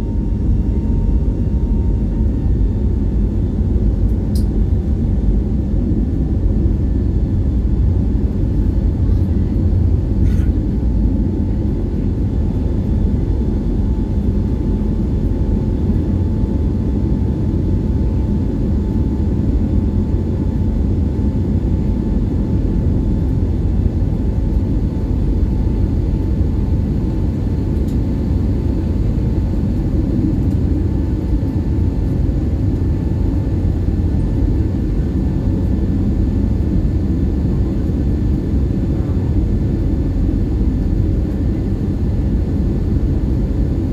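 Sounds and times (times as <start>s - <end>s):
jet engine rumble in cabin: 0.0s - 43.9s.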